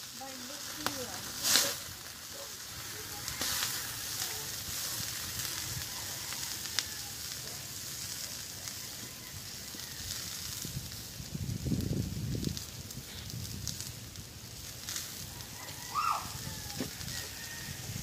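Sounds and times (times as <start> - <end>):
coals crackling: 0.0 - 18.0
food sizzling on grill: 0.0 - 18.0.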